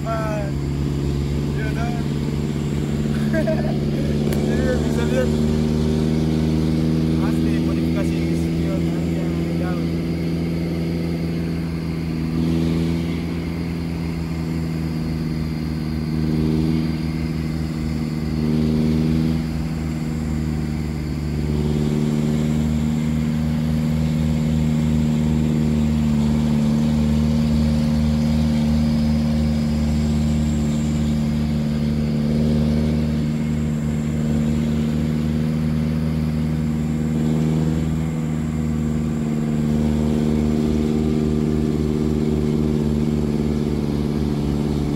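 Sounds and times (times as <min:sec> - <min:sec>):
vehicle engine droning: 0:00.0 - 0:44.9.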